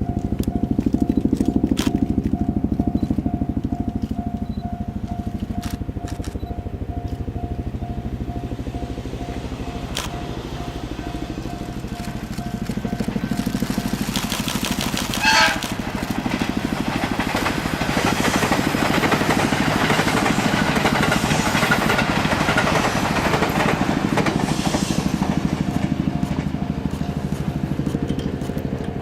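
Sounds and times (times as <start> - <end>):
train horn rising tone: 0.0 - 28.3
electric train passing: 0.0 - 29.0.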